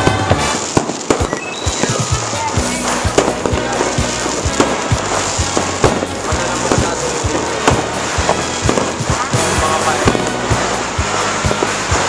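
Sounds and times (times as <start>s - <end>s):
fireworks exploding: 0.0s - 12.0s
music playing: 0.0s - 12.0s.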